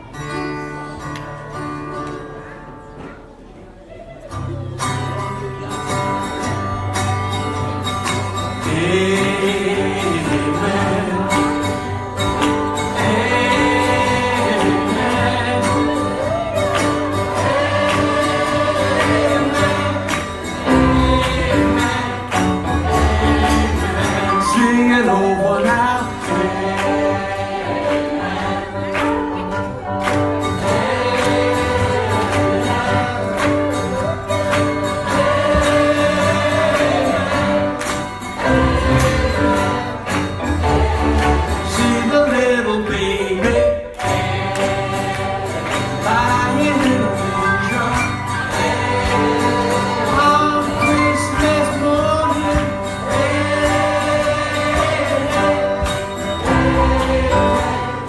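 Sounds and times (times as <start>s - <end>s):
guitar accompaniment: 0.0s - 58.0s
group of voices singing: 8.5s - 58.0s.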